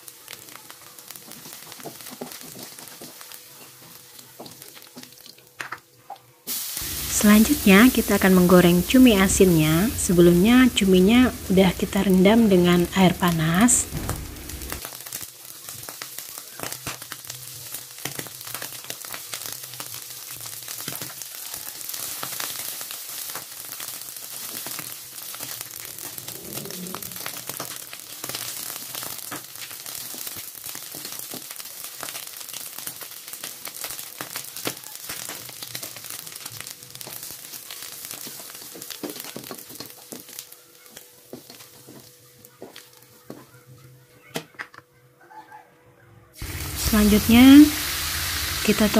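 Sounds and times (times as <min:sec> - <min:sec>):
squid sizzling in hot oil: 0:00.0 - 0:05.6, 0:06.5 - 0:43.3, 0:46.4 - 0:48.9.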